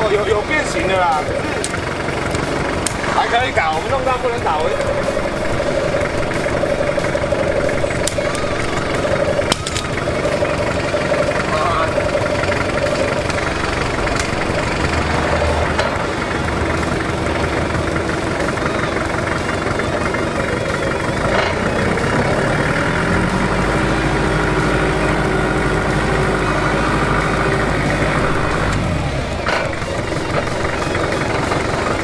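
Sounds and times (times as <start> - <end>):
forklift engine running: 0.0 - 32.0.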